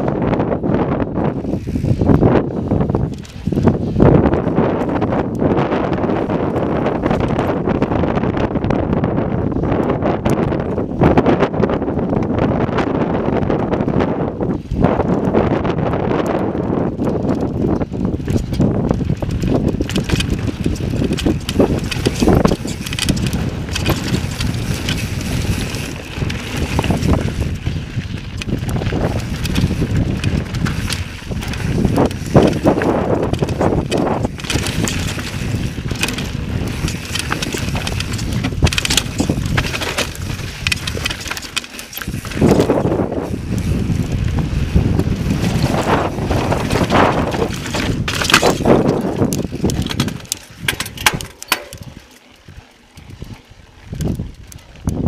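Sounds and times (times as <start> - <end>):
bike knocks and rattles: 0.0 - 55.0
bike tyres rumbling over rock: 0.0 - 55.0
wind on microphone: 0.0 - 55.0.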